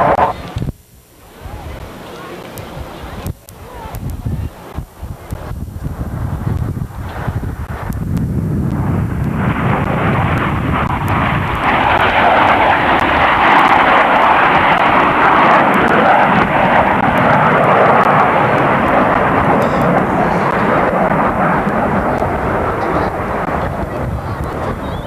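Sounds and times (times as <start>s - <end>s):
aircraft flying over: 0.0s - 0.7s, 4.8s - 25.0s.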